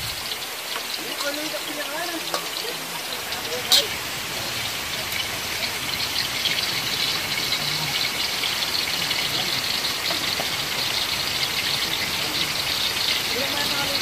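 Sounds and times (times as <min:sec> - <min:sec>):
oil crackling and sizzling in a wok: 0:00.0 - 0:14.0.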